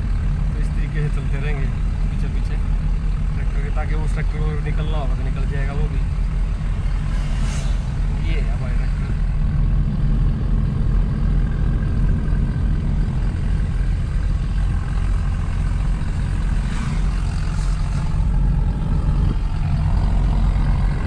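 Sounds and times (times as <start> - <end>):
car engine and road drone: 0.0 - 21.0.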